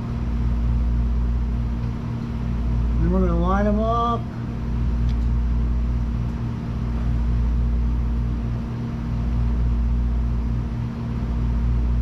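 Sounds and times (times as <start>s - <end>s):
low mechanical hum pulsing: 0.0s - 12.0s.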